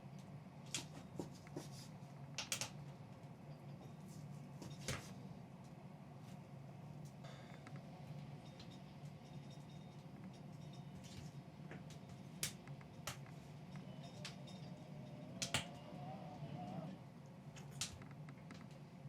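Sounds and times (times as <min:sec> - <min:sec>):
low steady hum: 0:02.0 - 0:19.0.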